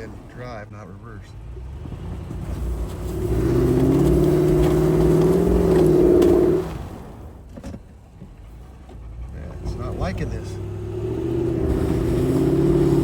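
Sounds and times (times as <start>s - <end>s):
suv engine straining in snow: 0.0s - 13.0s.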